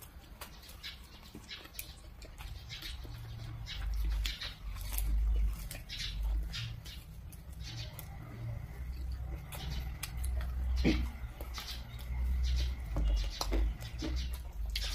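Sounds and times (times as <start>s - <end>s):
crisp bites and chewing: 0.0s - 14.9s
low rumble of chewing: 0.0s - 14.9s.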